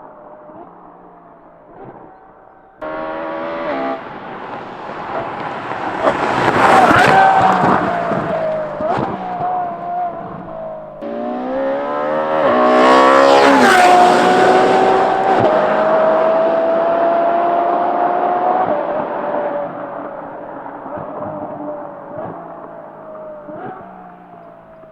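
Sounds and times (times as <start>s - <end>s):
sports car engine accelerating: 0.0s - 24.9s.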